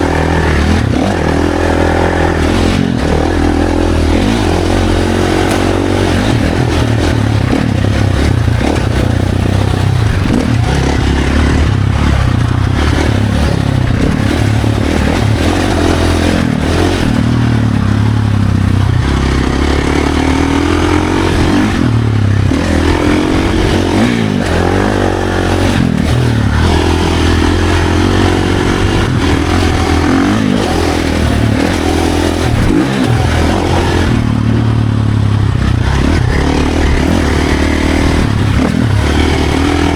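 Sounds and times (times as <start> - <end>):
bike clattering and scraping: 0.0 - 39.9
dirt bike engine revving: 0.0 - 39.9.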